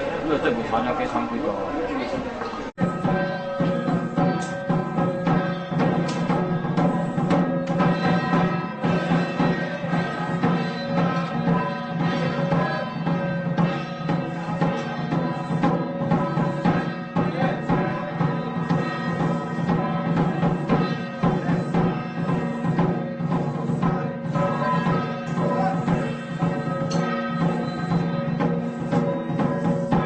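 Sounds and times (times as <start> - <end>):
drum and percussion strikes: 2.6 - 30.0.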